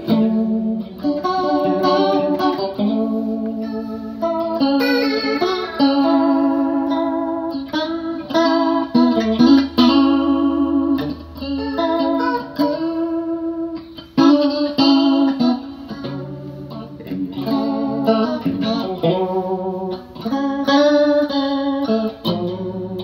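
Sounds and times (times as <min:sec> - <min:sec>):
electric guitar with rotary effect: 0:00.0 - 0:23.0.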